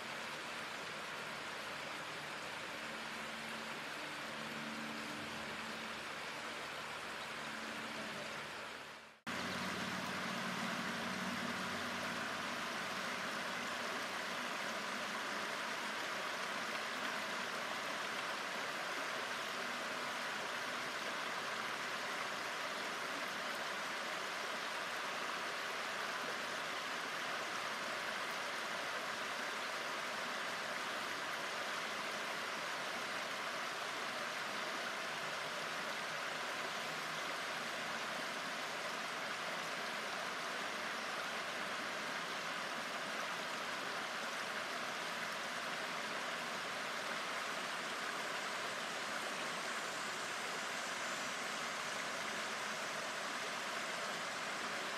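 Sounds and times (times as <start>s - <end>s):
river water running over stones: 0.0s - 54.9s.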